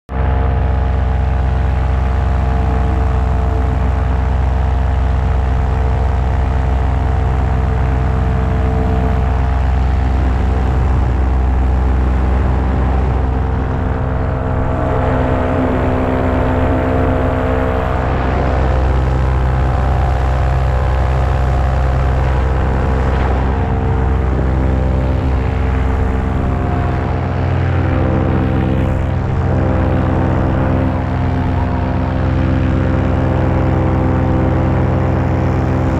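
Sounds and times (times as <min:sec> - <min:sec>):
paramotor engine drone: 0:00.1 - 0:35.9.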